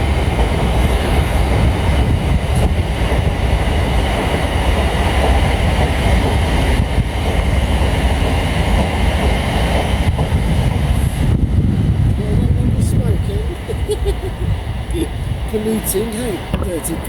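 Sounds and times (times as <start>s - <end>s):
diesel train rumbling: 0.0s - 17.0s.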